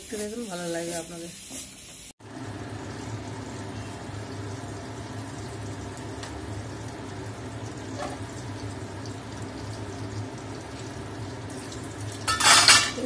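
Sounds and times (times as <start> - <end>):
water boiling in a covered pot: 2.2 - 13.0.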